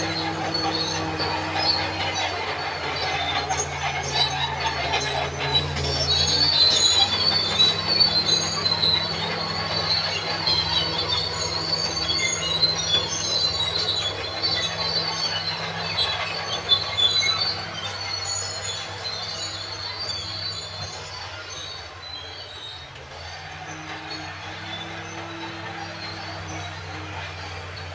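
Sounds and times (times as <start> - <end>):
diesel engine droning: 0.0 - 27.9
steel tracks squealing: 0.0 - 27.9.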